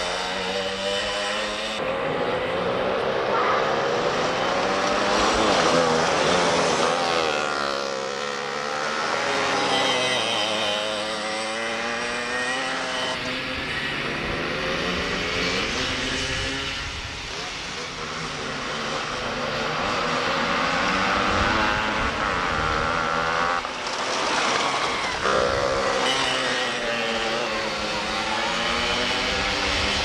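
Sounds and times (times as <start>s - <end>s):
kart engine revving: 0.0s - 30.0s.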